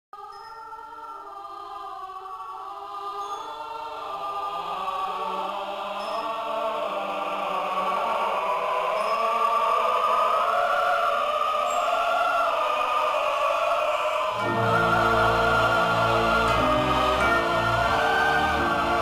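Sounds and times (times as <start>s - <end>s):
choir singing held notes: 0.2s - 19.0s.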